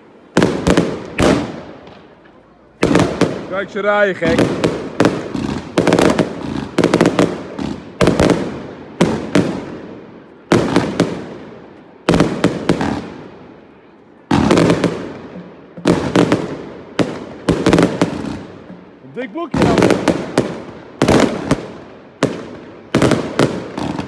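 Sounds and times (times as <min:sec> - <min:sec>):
fireworks bangs with crackle: 0:00.0 - 0:24.0.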